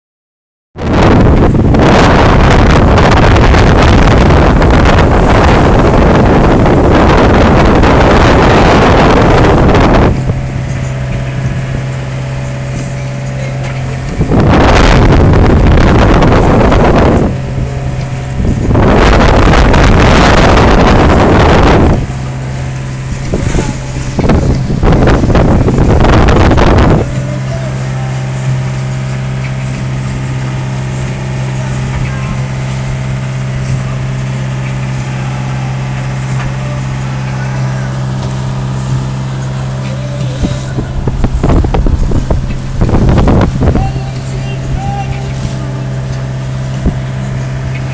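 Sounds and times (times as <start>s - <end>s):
boat engine low hum: 0.8s - 47.9s
waves rushing and breaking: 0.8s - 47.9s
wind buffeting microphone: 0.8s - 47.9s.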